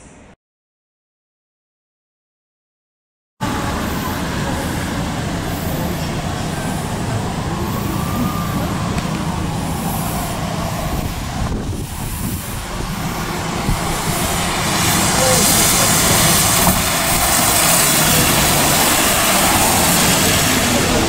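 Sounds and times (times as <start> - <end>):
bus engines rumbling: 3.4 - 21.0
tyre hiss on wet road: 3.4 - 21.0.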